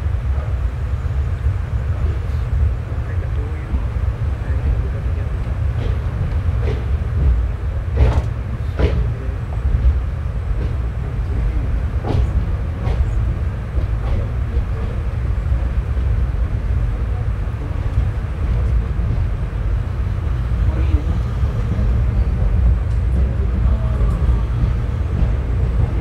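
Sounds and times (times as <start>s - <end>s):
train coaches rumbling: 0.0s - 26.0s.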